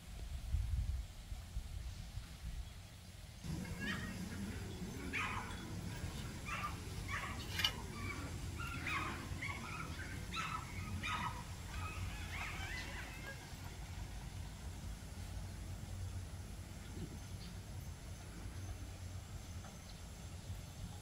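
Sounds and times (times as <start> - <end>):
low steady rumble: 0.0 - 21.0
birds calling: 3.4 - 21.0.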